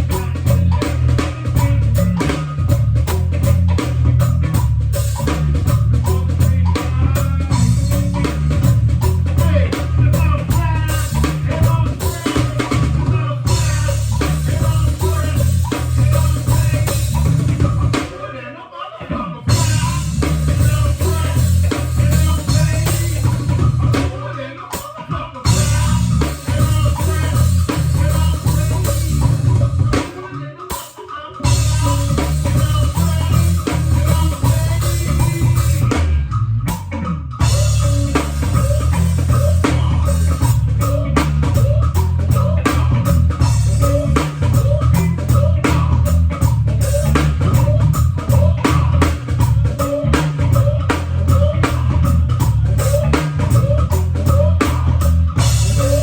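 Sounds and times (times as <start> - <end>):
heavy bass guitar: 0.0 - 18.4, 19.1 - 56.0
live band playing: 0.0 - 56.0.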